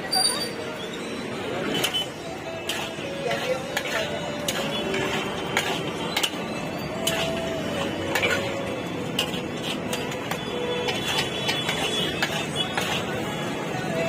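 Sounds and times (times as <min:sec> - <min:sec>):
background hubbub: 0:00.0 - 0:14.0
steel ladle scraping pot: 0:01.7 - 0:13.4.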